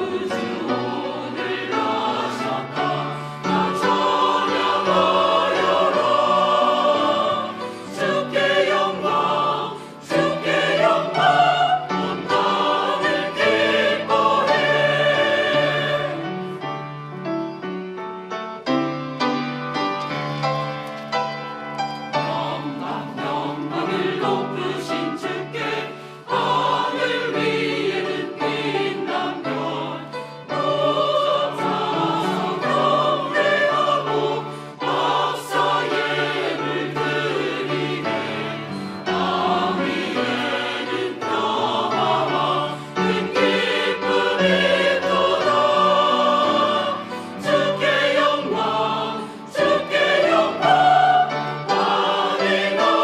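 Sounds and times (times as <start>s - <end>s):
choir singing a hymn: 0.0s - 17.7s, 21.8s - 53.0s
keyboard accompaniment: 0.0s - 53.0s.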